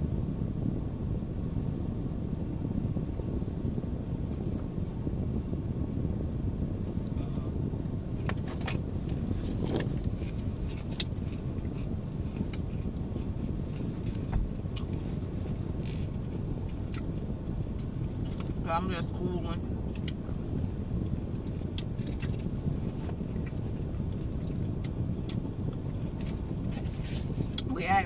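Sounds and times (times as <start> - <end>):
car idling heard from inside: 0.0 - 28.0.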